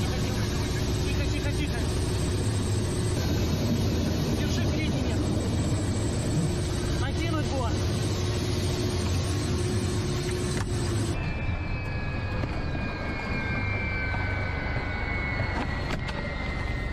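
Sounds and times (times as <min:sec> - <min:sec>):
helicopter engine and rotor drone: 0:00.0 - 0:16.9
thin high whine: 0:00.0 - 0:16.9.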